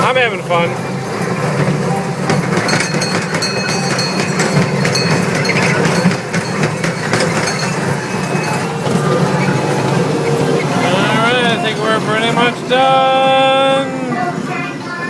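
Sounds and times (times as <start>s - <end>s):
ride train rattling and clinking: 0.0s - 15.0s.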